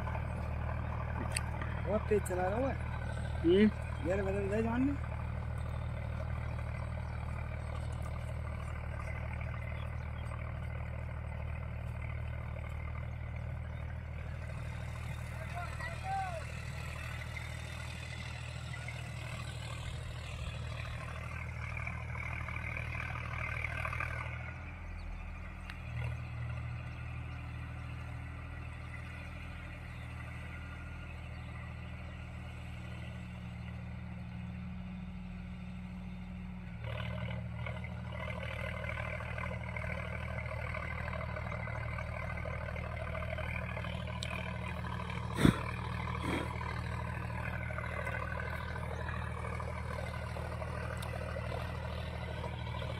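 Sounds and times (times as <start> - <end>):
tractor diesel engine droning: 0.0 - 52.9.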